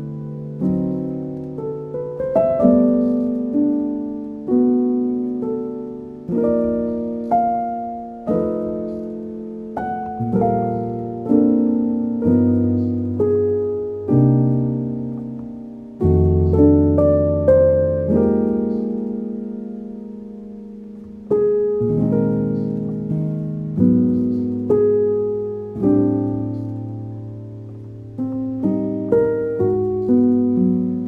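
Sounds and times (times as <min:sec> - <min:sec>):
calm piano-like music: 0:00.0 - 0:31.0.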